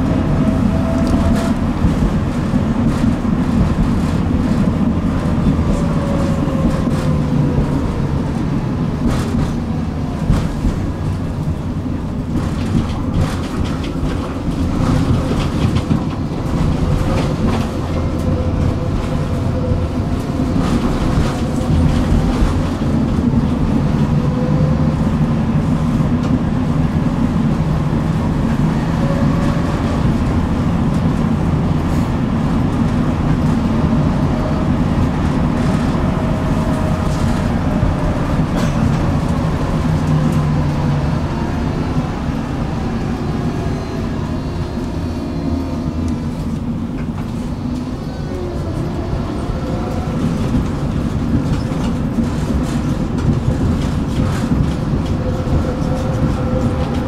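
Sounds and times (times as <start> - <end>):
tram wheels rumbling on rails: 0.0 - 57.0
wheels clacking over rail joints: 0.0 - 57.0.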